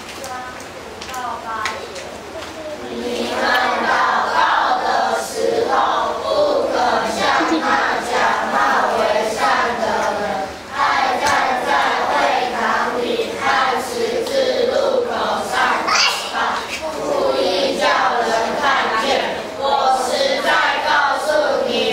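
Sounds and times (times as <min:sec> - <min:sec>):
children's choir singing: 0:02.8 - 0:21.9.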